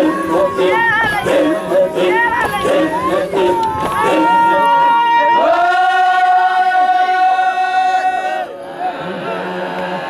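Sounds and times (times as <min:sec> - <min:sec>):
men singing a cappella chant: 0:00.0 - 0:10.0.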